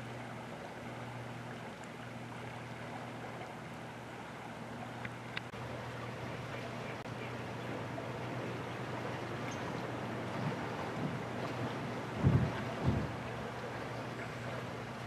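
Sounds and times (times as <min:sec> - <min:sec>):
faint low hum: 0:00.0 - 0:15.0
river current rushing: 0:00.0 - 0:15.0.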